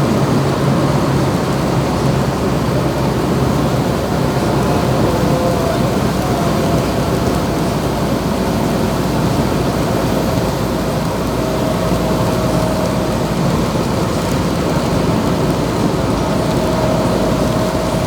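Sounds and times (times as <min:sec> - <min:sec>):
heavy rain: 0:00.0 - 0:18.0
truck on wet road: 0:00.0 - 0:18.0
thin steady whine: 0:01.6 - 0:18.0.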